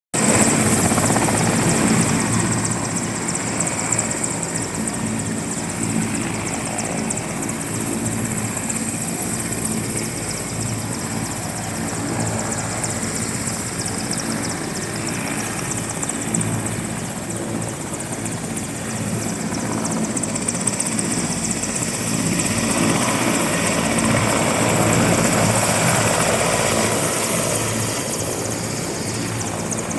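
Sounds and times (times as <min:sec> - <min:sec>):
helicopter rotor chopping: 0:00.2 - 0:29.9
high turbine whine: 0:00.2 - 0:29.9.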